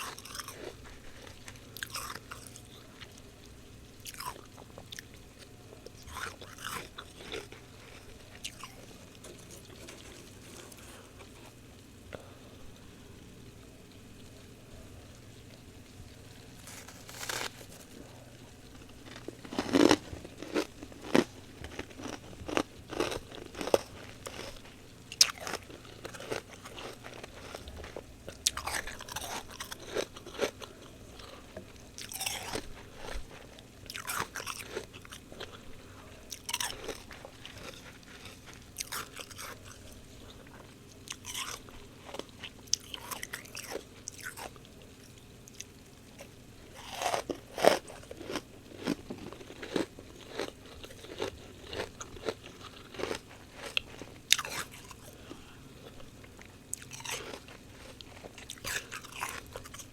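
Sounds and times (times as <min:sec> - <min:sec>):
frost being chewed crunching: 0:00.0 - 0:12.4, 0:14.2 - 0:59.9.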